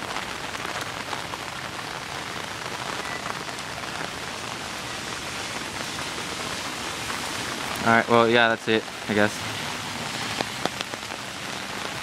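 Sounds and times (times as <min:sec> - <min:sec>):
hard rain hissing: 0:00.0 - 0:12.0
raindrops ticking on umbrella: 0:00.0 - 0:12.0.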